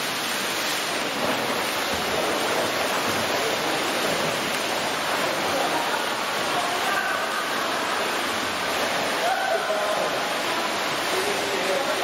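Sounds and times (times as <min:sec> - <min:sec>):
swimmers splashing water: 0:00.0 - 0:12.0.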